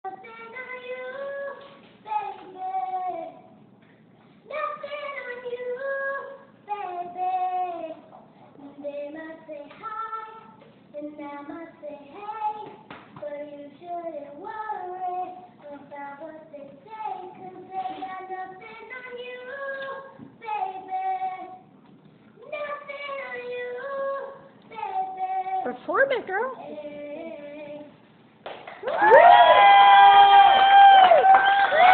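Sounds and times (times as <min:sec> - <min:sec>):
girl singing: 0:00.0 - 0:03.6, 0:04.4 - 0:21.7, 0:22.4 - 0:28.0.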